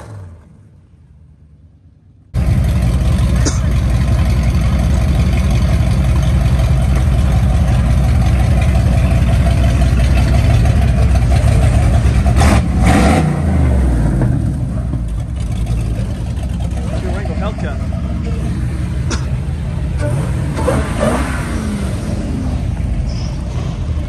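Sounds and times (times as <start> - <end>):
car exhaust rumbling: 2.0 - 24.0.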